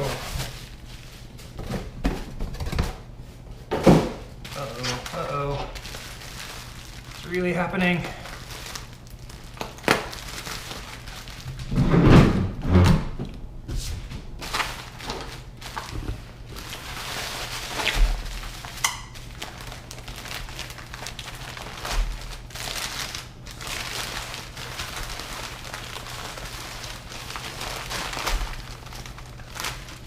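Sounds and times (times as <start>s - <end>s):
packing paper rustling: 0.0s - 3.4s, 4.3s - 11.8s, 14.3s - 30.0s.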